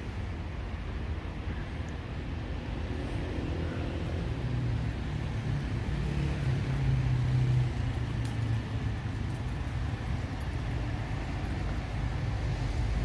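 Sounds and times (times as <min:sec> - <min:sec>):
road traffic rumble: 0:00.0 - 0:13.0
vehicle engine hum: 0:00.0 - 0:13.0.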